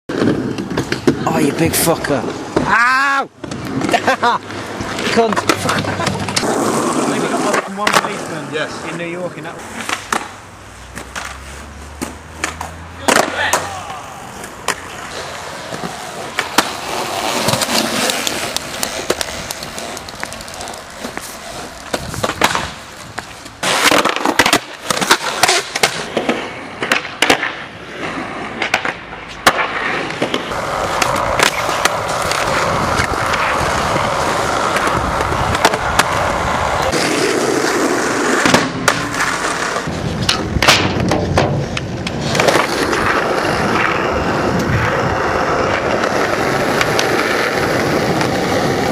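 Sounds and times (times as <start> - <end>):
skateboard clacking on ground: 0.1 - 48.9
skateboard wheels rolling: 0.1 - 48.9.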